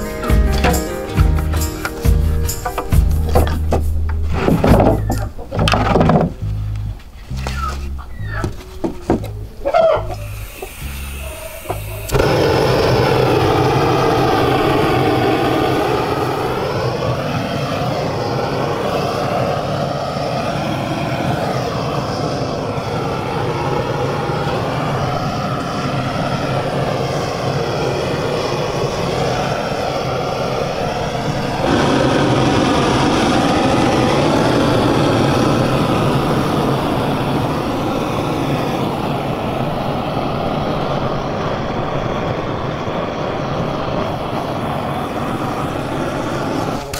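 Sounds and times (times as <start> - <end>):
engine-like drone: 0.0 - 46.9.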